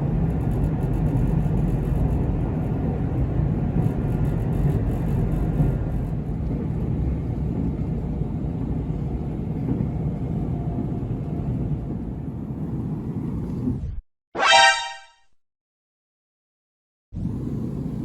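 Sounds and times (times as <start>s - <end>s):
electric train rumbling: 0.0s - 13.8s, 17.2s - 18.0s.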